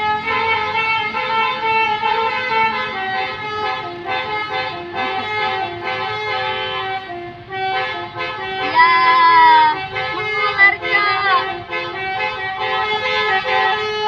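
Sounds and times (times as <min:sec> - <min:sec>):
musical air horns playing a tune: 0:00.0 - 0:14.0.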